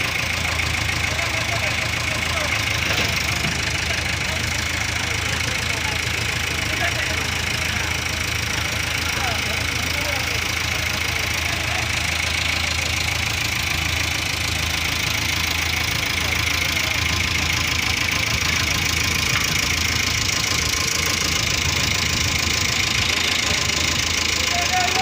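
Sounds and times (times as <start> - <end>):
large engine running: 0.0 - 25.0.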